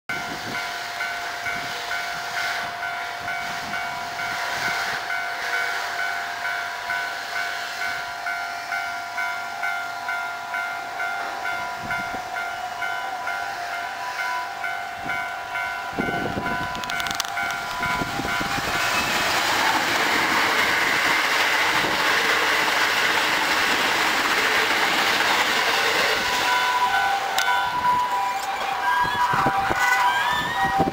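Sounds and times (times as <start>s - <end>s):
electric train passing: 0.1s - 30.9s
level-crossing alarm bell ringing: 0.1s - 30.9s.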